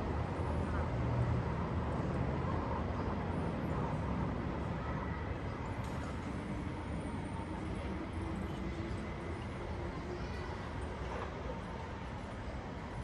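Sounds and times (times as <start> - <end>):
urban background din: 0.0 - 13.0.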